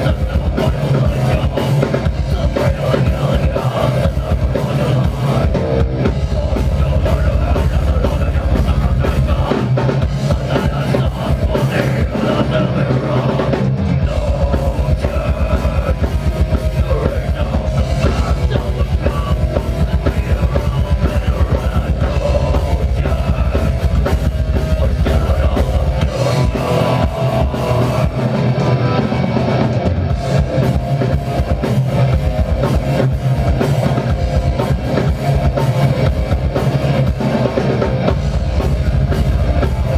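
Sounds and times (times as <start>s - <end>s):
distorted guitars: 0.0s - 39.9s
rapid bass drum: 0.0s - 39.9s.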